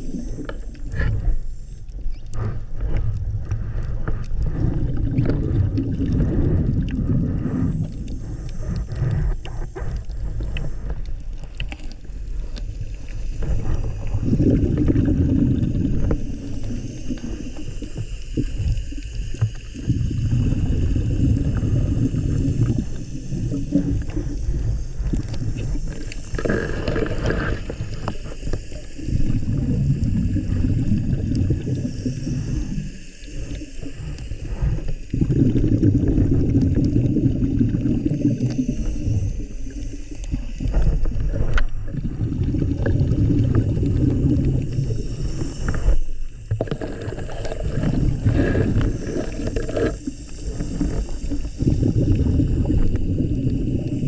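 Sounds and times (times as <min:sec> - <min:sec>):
underwater bubbles gurgling: 0:00.0 - 0:54.0.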